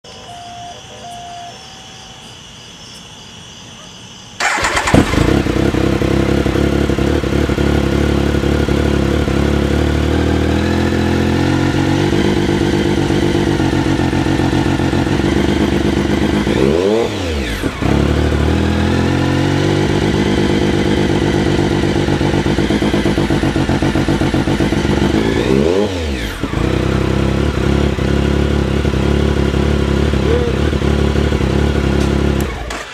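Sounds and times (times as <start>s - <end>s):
motorcycle engine idling: 4.4s - 32.9s
motorcycle throttle blips: 4.4s - 32.9s.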